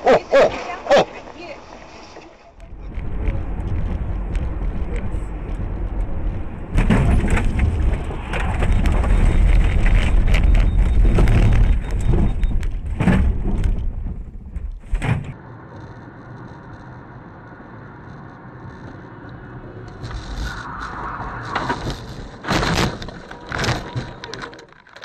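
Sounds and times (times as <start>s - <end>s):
car driving hum: 1.1s - 25.0s
road and wind noise inside car: 2.5s - 25.0s.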